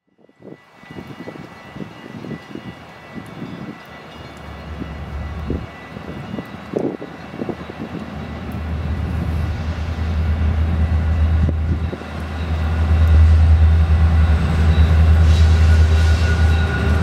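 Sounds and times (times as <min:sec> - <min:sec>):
diesel locomotive engine rumble: 0:00.2 - 0:17.0.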